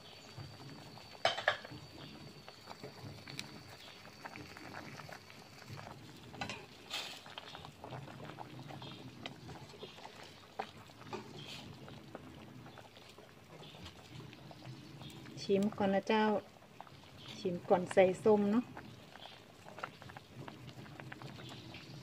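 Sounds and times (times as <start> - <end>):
soup bubbling and popping: 0.0 - 22.0.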